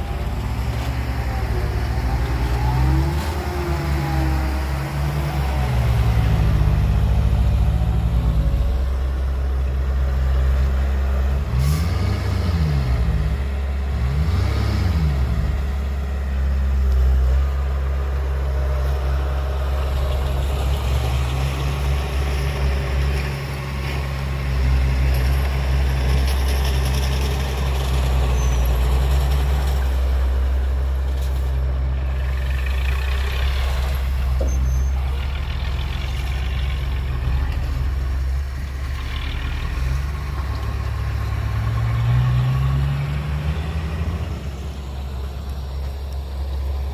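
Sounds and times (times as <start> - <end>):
diesel engine revving: 0.0 - 46.9.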